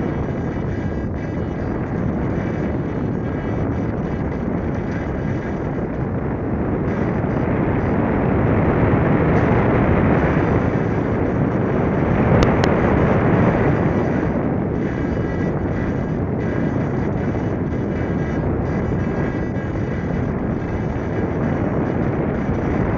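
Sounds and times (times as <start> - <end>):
air rushing over microphone: 0.0 - 22.9.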